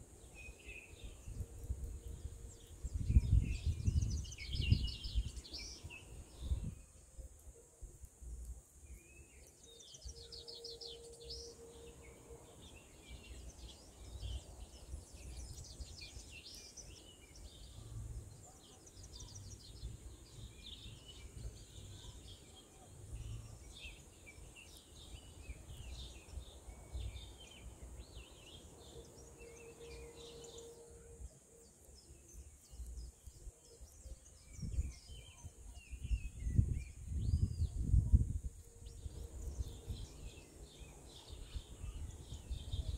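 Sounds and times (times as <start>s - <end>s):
small birds chirping: 0.0s - 42.9s
wind rumble on microphone: 0.3s - 8.6s, 13.0s - 29.5s, 32.3s - 42.9s.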